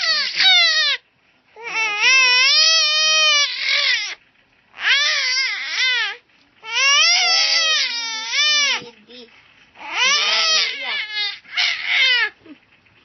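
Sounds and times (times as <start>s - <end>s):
baby crying: 0.0s - 1.0s, 1.6s - 8.8s, 9.8s - 12.4s.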